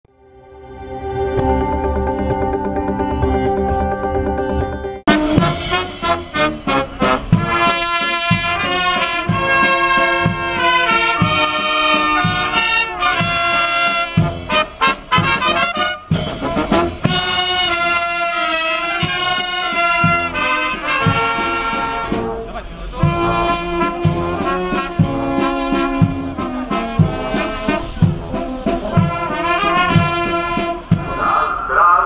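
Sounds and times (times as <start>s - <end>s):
trumpets and trombones playing: 0.4s - 32.0s
steady drum beat: 1.4s - 31.4s.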